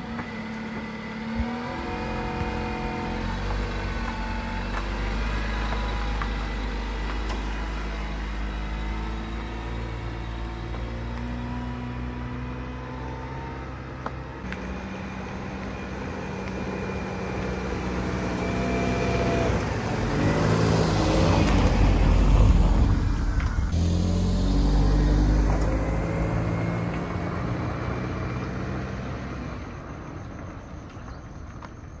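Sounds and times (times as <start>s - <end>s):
motor vehicle passing: 0.0s - 30.2s.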